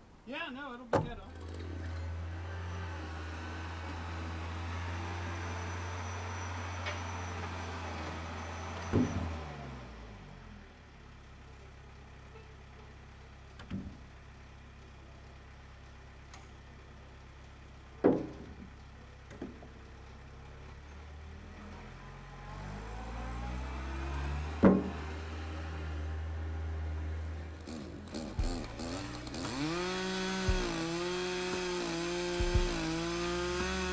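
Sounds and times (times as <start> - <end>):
diesel engine humming: 2.1 - 33.9.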